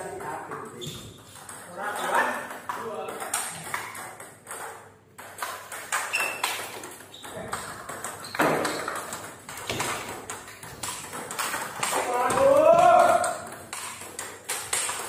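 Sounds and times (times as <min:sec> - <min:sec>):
table tennis balls clicking: 0:00.0 - 0:15.0.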